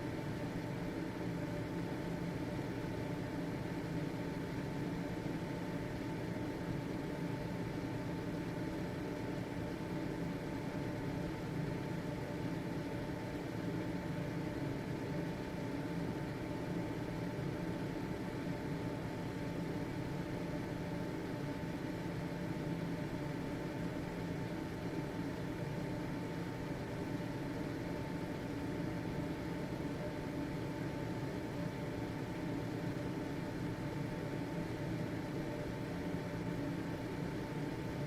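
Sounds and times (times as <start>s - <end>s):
ventilation fan whooshing: 0.0s - 38.0s.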